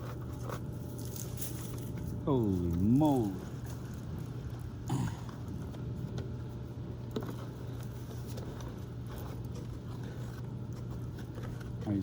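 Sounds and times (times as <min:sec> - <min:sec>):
clothes dryer humming: 0:00.0 - 0:12.0.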